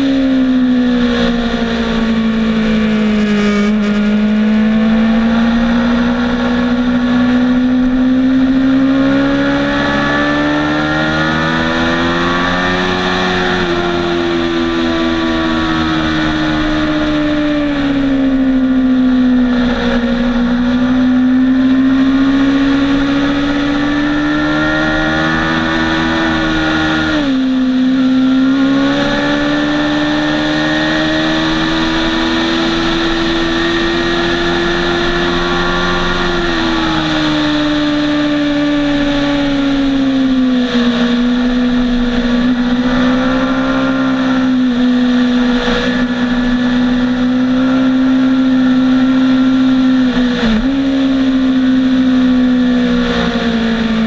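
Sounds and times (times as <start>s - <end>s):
motorcycle engine running hard: 0.0s - 54.0s.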